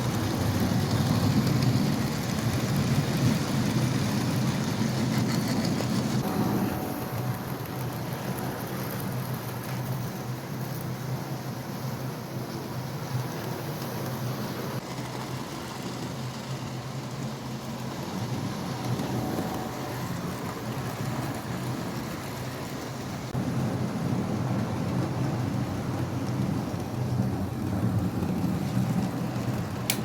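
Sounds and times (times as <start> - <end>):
model train wheels rumbling: 0.0 - 30.0.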